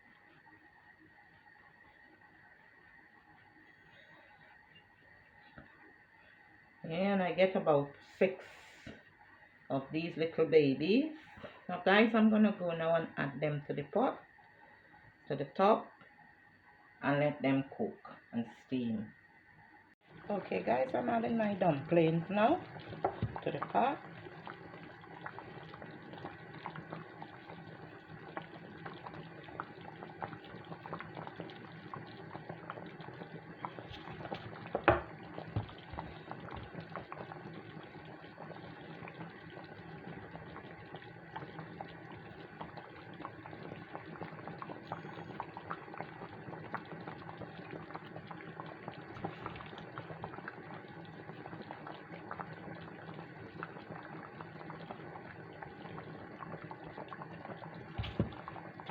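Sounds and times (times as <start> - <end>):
soup bubbling in pot: 0.0 - 58.9.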